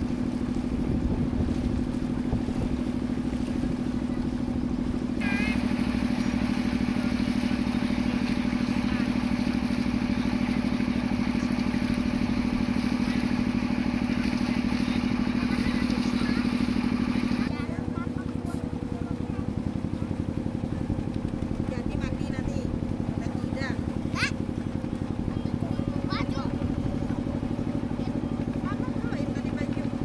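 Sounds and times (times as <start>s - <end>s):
motorboat engine chugging: 0.0s - 30.0s.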